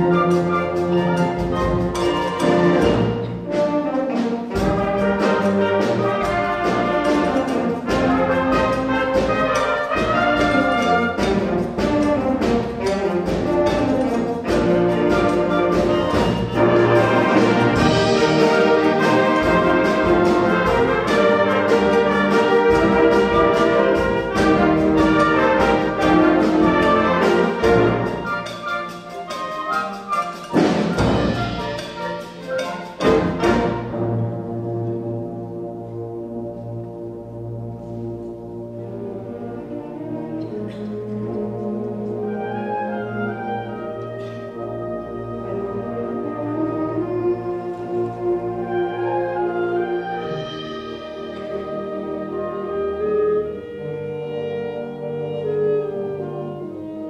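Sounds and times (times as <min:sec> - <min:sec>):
symphonic band playing: 0:00.0 - 0:57.0.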